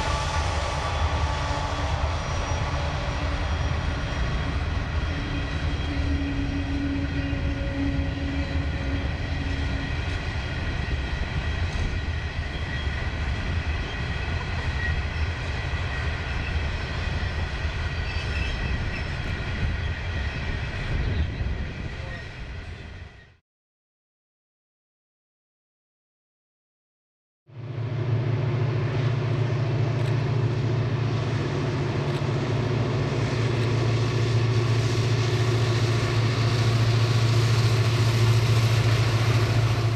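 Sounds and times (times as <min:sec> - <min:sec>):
train wheels rumbling on rails: 0:00.0 - 0:23.4, 0:27.6 - 0:39.9.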